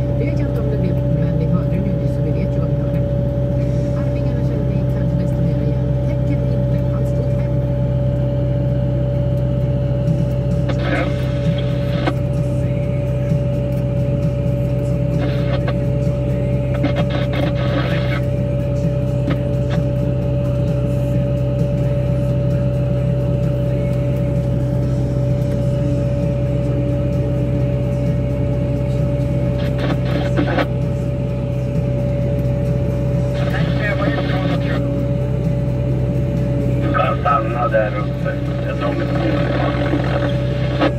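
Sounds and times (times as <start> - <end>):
diesel engine drone: 0.0 - 40.9
snowblower high whine: 0.0 - 40.9.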